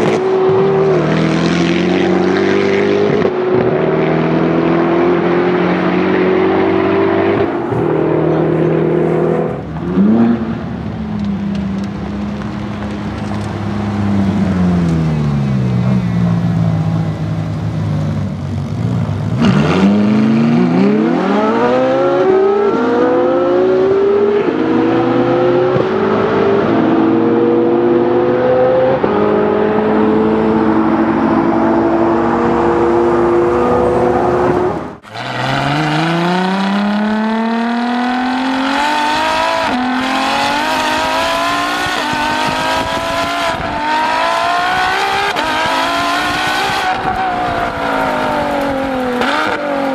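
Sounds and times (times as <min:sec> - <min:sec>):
sports car engines accelerating: 0:00.0 - 0:49.9.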